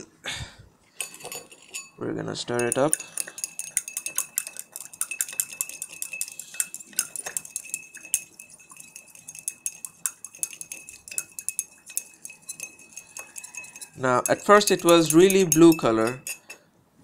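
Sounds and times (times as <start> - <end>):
stirrer clinking in glass beaker: 1.0 - 16.7.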